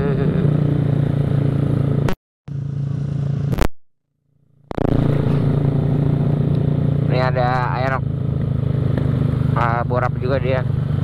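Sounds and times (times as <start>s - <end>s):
scooter engine humming: 0.0s - 3.5s, 4.4s - 11.0s.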